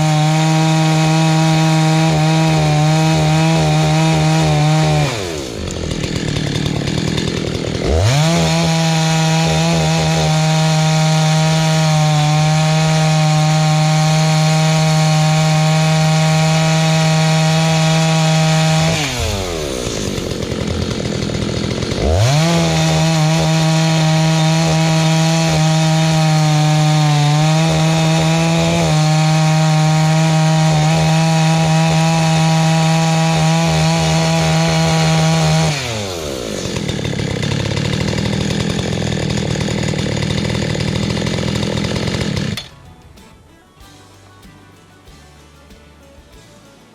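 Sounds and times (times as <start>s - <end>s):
chainsaw cutting wood: 0.0s - 46.9s
chainsaw idling: 0.0s - 46.9s.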